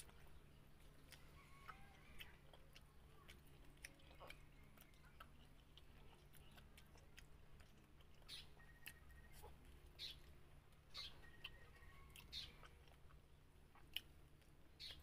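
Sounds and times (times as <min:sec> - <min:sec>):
close-up chewing: 0:00.0 - 0:15.0
steady low hum: 0:00.0 - 0:15.0.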